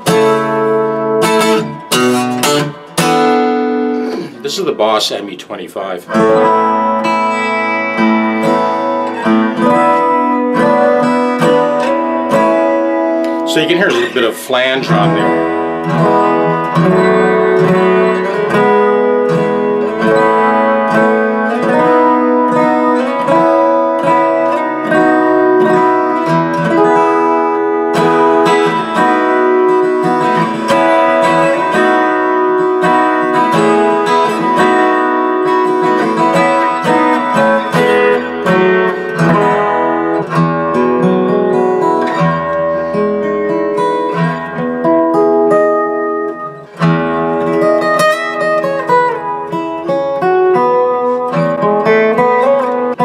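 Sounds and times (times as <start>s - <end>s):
acoustic guitar with flange effect: 0.0s - 53.0s.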